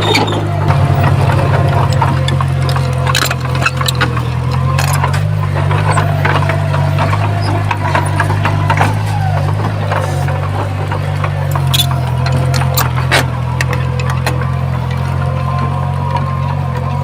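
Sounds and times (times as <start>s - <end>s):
metal and stone clanking: 0.0s - 15.3s
diesel engine running: 0.0s - 17.0s.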